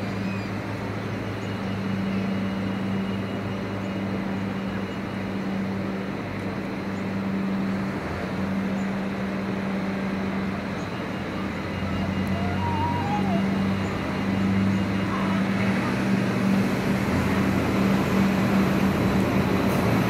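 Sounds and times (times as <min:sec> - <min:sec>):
diesel railcars idling: 0:00.0 - 0:20.0.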